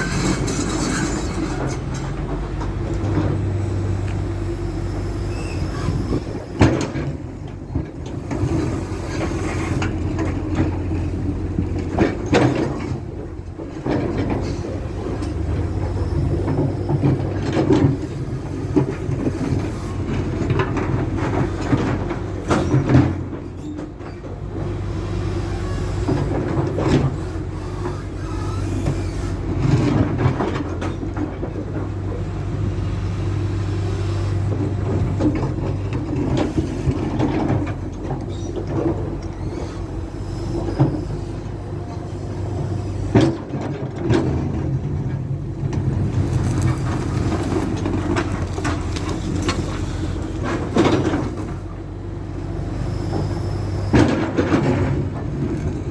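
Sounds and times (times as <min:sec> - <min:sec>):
bucket scraping and clanking on asphalt: 0:00.0 - 0:04.4, 0:05.2 - 0:55.9
excavator diesel engine: 0:00.0 - 0:55.9.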